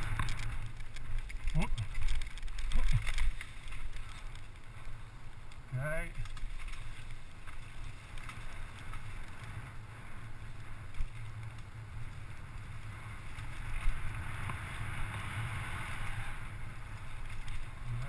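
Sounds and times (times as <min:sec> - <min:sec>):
bike tyre and drivetrain rattle: 0:00.0 - 0:18.0.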